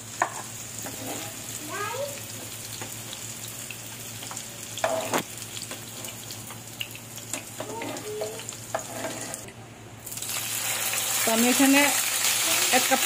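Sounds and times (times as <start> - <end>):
tofu sizzling in oil: 0.0 - 9.4, 10.0 - 13.0.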